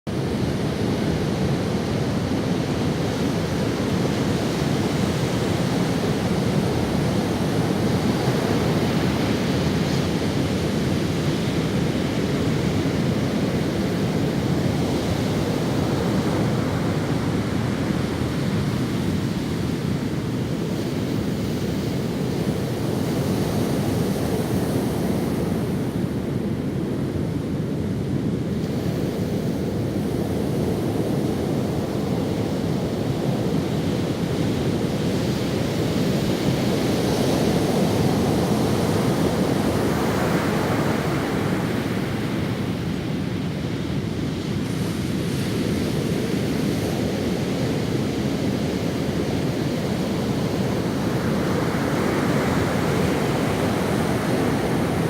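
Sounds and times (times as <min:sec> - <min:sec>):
ocean surf on beach: 0:00.1 - 0:55.0.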